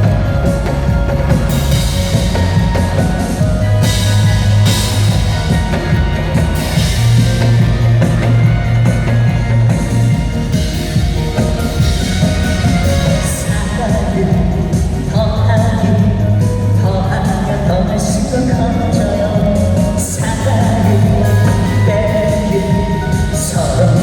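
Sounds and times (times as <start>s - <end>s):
instrumental pop music: 0.0s - 24.0s.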